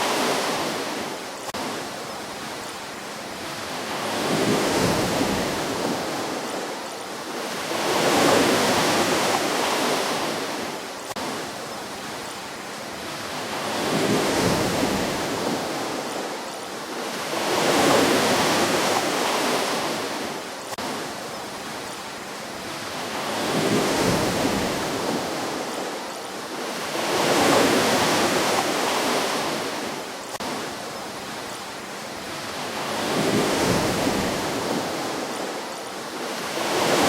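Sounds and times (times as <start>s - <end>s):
ocean waves breaking on beach: 0.0s - 37.0s.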